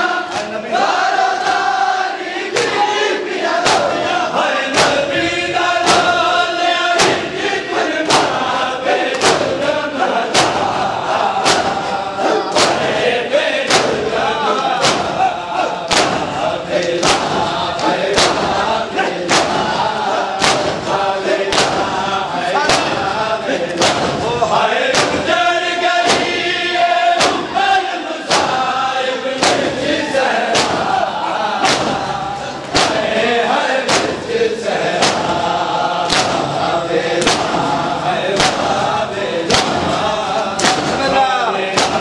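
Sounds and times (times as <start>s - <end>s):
crowd chanting in unison: 0.0s - 42.0s
chest-beating slaps: 0.2s - 1.8s, 2.5s - 2.9s, 3.6s - 42.0s.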